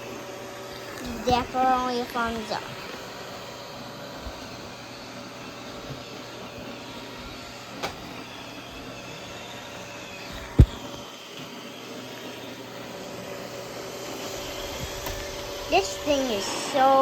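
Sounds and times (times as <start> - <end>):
robot vacuum motor hum: 0.0 - 17.0.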